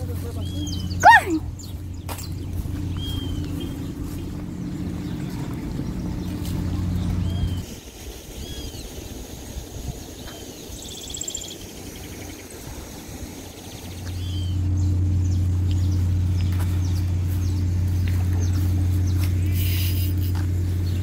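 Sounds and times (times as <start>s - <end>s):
small birds chirping: 0.0s - 21.0s
steady low hum: 0.0s - 21.0s.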